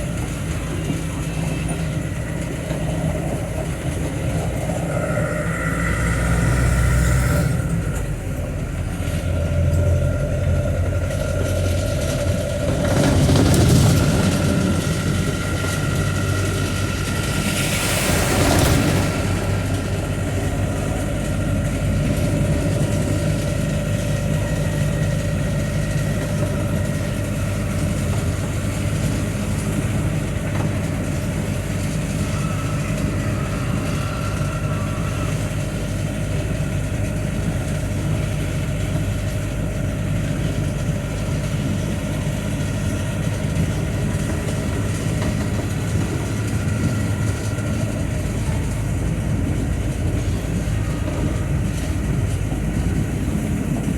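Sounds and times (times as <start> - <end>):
engine hum: 0.0 - 53.9
road noise on wet highway: 0.0 - 53.9.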